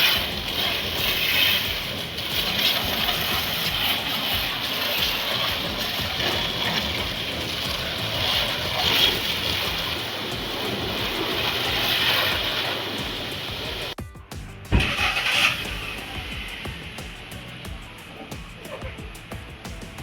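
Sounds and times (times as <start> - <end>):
pressure washer spraying water: 0.0 - 14.0, 14.7 - 20.0.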